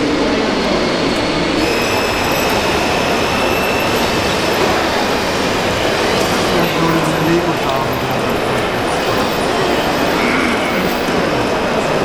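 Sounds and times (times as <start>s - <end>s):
din of a busy hall: 0.0s - 12.0s
thin high whine: 1.6s - 11.3s.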